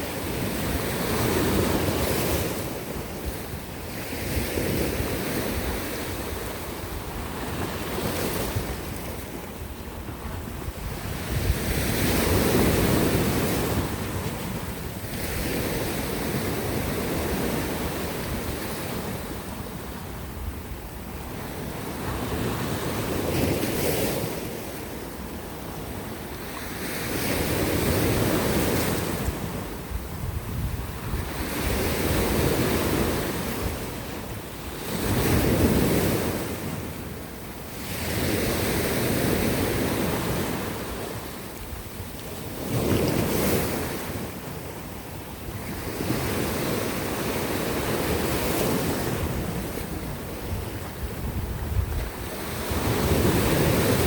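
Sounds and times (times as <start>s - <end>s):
wind rumbling on microphone: 0.0s - 26.4s, 27.3s - 54.0s.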